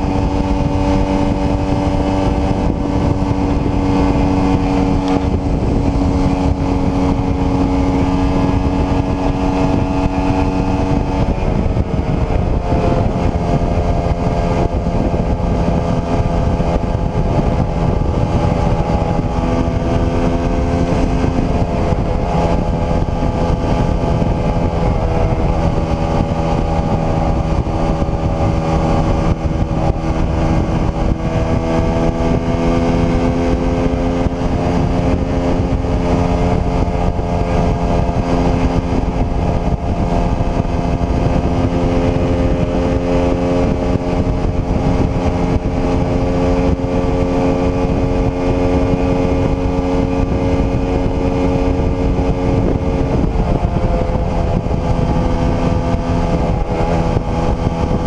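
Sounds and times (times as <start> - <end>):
motorcycle engine cruising: 0.0 - 58.0
wind rush on camera: 0.0 - 58.0.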